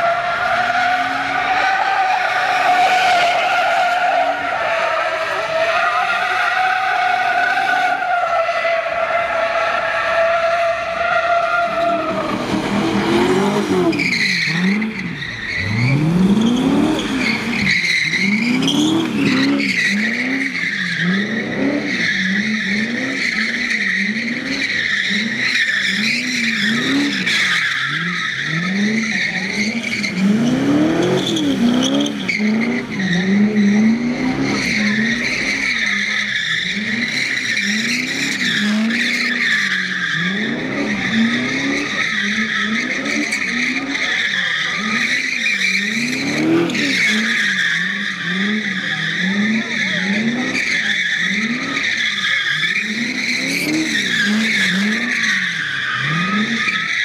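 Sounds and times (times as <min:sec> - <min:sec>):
car engine revving: 0:00.0 - 0:57.0
tyres squealing: 0:00.0 - 0:57.0.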